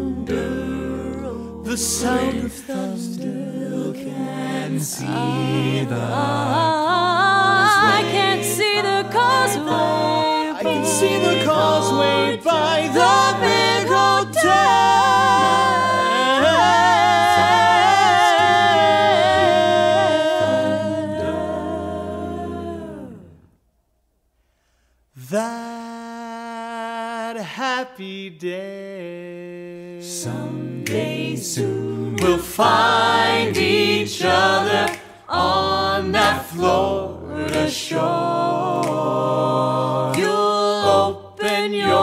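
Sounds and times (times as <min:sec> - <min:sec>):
a cappella group singing harmony: 0:00.0 - 0:23.6, 0:25.2 - 0:42.0.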